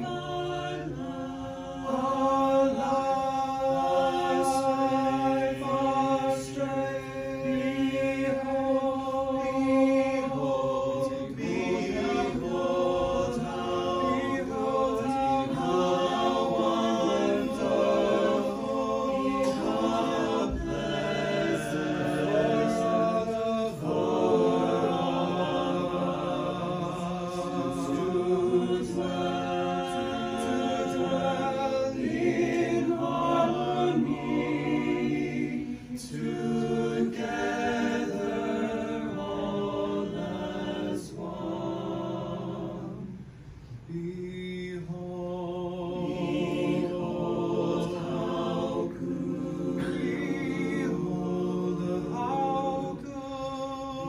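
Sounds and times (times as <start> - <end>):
mixed choir singing a cappella: 0.0 - 54.0.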